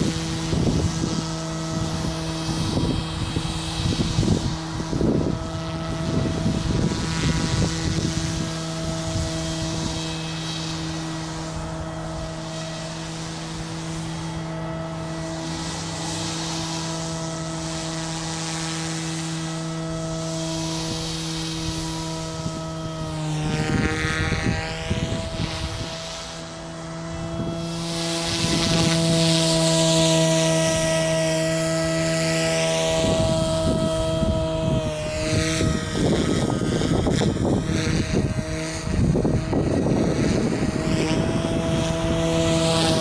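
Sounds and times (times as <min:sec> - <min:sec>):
rapid rotor chopping: 0:00.0 - 0:43.0
rc helicopter rotor hum: 0:00.0 - 0:43.0.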